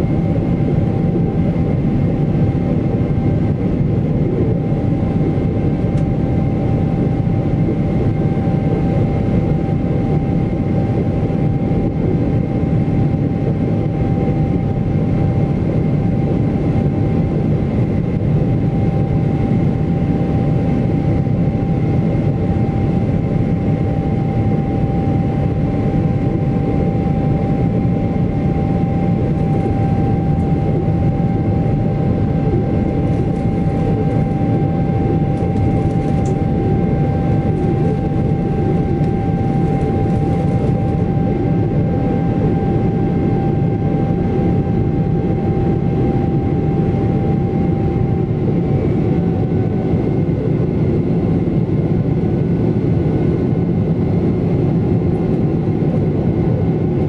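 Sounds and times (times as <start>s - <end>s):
jet engine low rumble: 0.0s - 57.0s
jet engine whine: 0.0s - 57.0s.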